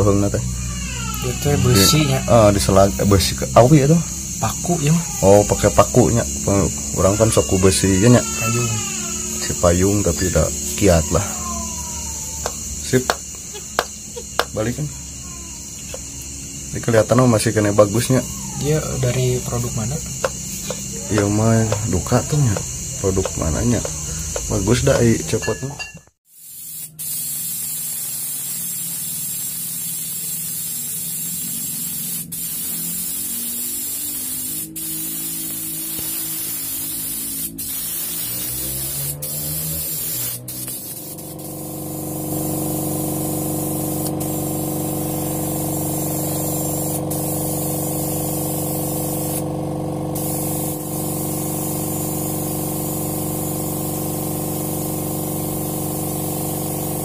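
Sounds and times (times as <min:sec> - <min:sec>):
airbrush hissing: 0:00.0 - 0:25.4, 0:26.2 - 0:57.0
air compressor humming: 0:00.0 - 0:57.0.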